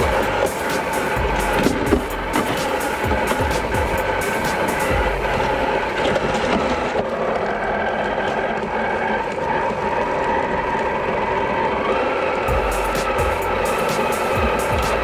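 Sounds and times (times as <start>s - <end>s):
rattling drivetrain: 0.0s - 15.0s
toy car motor whine: 0.0s - 15.0s.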